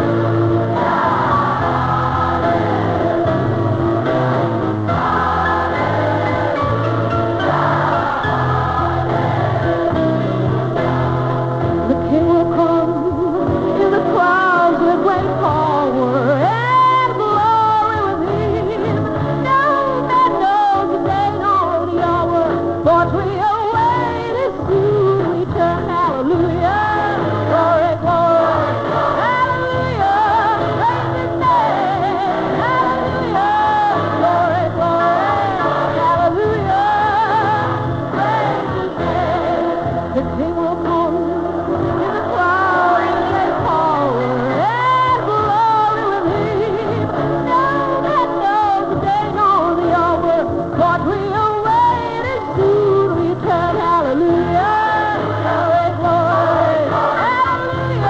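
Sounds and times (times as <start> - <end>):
musical accompaniment: 0.0 - 58.0.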